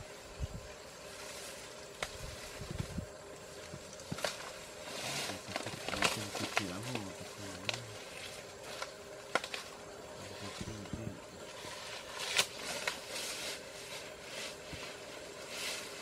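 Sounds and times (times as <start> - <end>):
dry vegetation rustling: 0.6 - 16.0.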